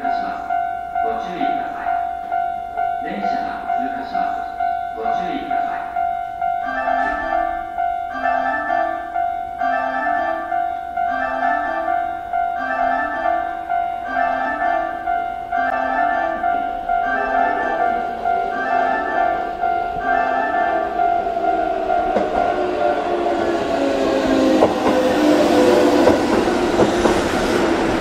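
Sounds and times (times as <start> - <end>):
electronic chime melody: 0.0 - 24.2
steady held tone: 0.0 - 28.0.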